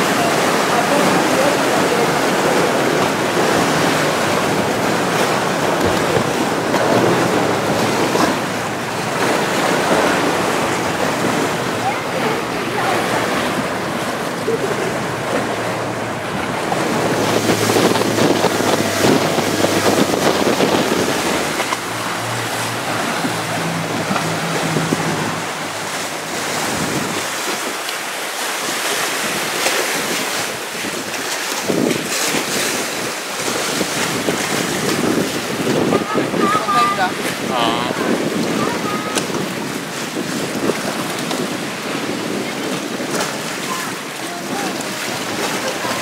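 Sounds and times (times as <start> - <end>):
boat motor humming: 0.0 - 46.0
water rushing and splashing: 0.0 - 46.0
wind buffeting microphone: 0.0 - 46.0.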